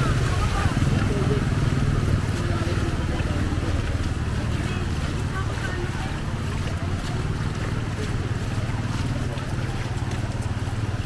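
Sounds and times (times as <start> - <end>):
flood water rushing: 0.0 - 11.0.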